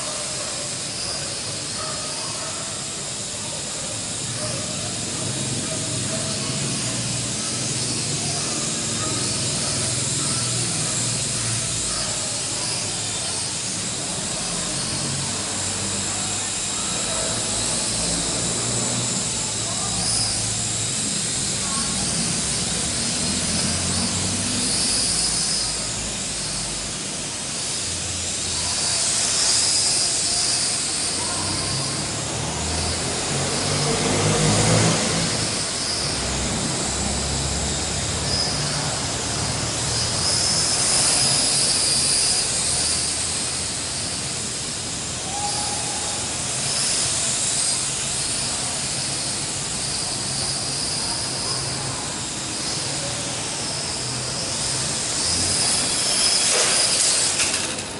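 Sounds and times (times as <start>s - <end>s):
toy drone motors whining: 0.0s - 57.9s.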